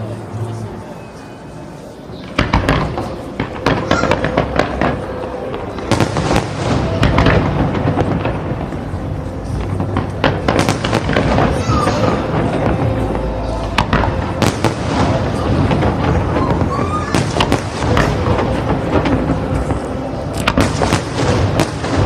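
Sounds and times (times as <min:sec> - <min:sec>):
fireworks bangs and crackles: 0:02.2 - 0:22.0.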